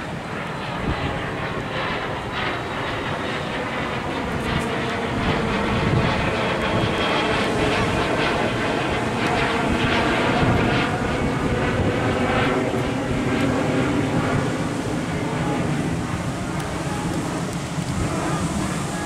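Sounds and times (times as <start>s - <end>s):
jet flying overhead: 0.0s - 19.0s.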